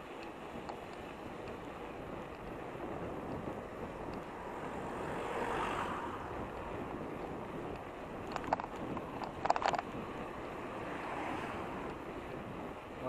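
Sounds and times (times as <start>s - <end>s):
bicycle road noise: 0.0s - 13.0s
passing vehicle tyre noise: 0.0s - 13.0s.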